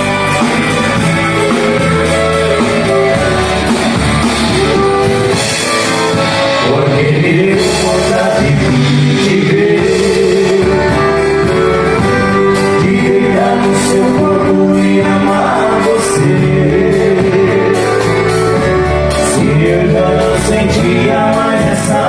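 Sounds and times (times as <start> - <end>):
drum kit with cymbals: 0.0 - 22.0
person singing: 0.0 - 22.0
strummed acoustic guitars: 0.0 - 22.0.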